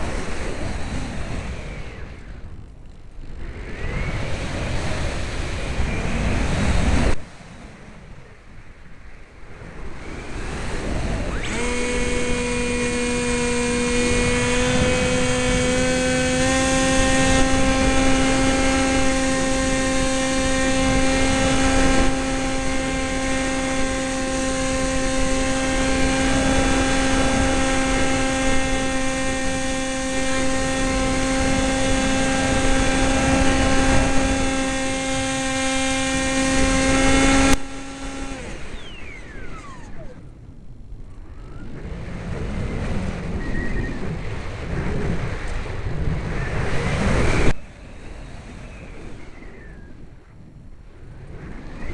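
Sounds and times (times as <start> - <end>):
electric motor and propeller whining: 0.0 - 51.9.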